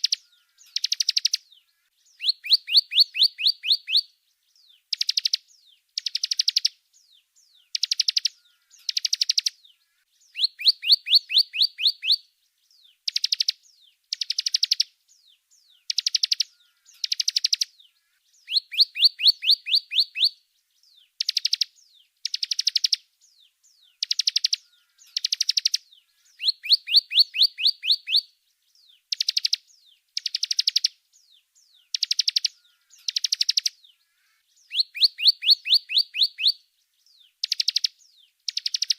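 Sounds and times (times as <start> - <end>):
songbird buzzy trills: 0.0 - 38.9.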